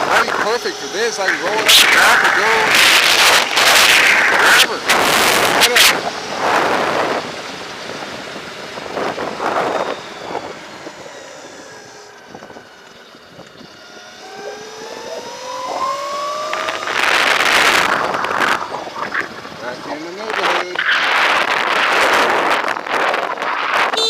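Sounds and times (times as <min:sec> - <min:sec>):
electric motor whine: 0:00.0 - 0:24.0
wind buffeting microphone: 0:00.0 - 0:24.0.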